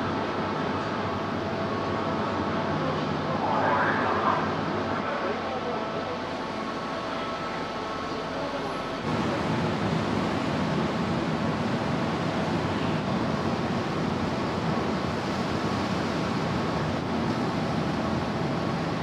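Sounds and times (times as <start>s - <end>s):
churned water rushing: 0.0s - 19.0s
faint ship machinery hum: 0.0s - 19.0s.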